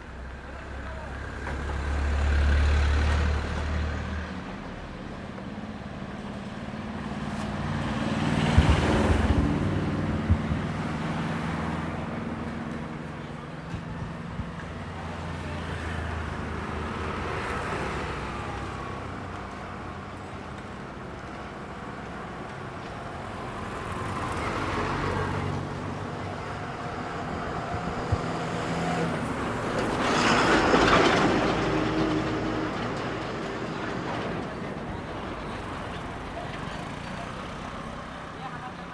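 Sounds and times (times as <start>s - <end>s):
vehicles passing by: 0.0s - 38.9s.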